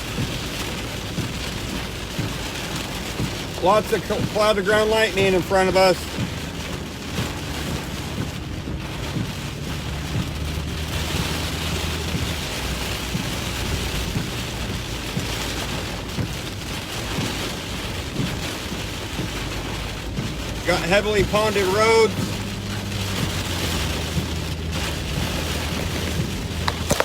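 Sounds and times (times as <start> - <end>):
engine and tyres on wet road: 0.0 - 27.0
heavy rain on vehicle: 0.0 - 27.0.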